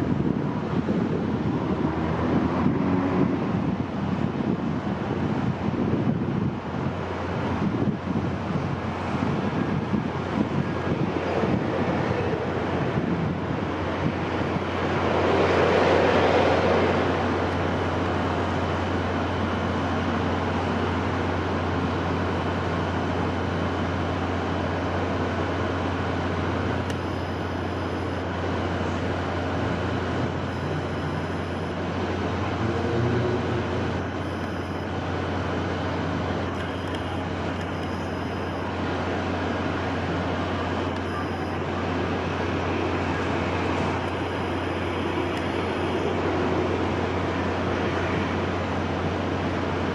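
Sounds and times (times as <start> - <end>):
wind with low rumble: 0.0 - 49.9.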